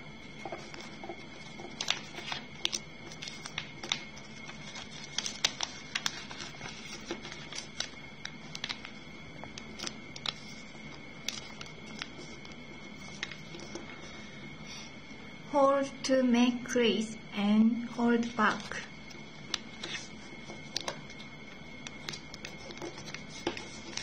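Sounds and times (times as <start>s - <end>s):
faint high whine: 0.0s - 24.0s
paper crinkling and rustling: 0.2s - 14.3s, 18.5s - 24.0s.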